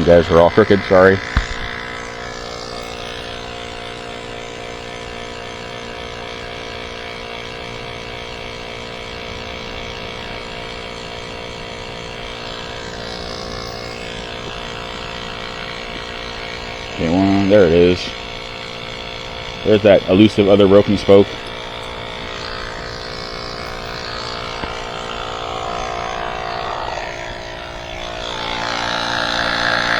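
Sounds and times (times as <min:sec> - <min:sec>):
electric tyre pump running: 0:00.0 - 0:29.9.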